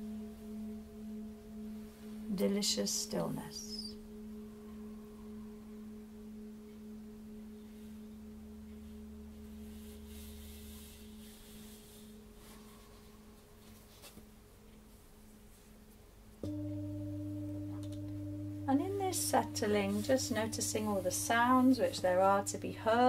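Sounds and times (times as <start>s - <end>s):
singing bowl ringing: 0.0s - 13.6s, 16.4s - 23.0s.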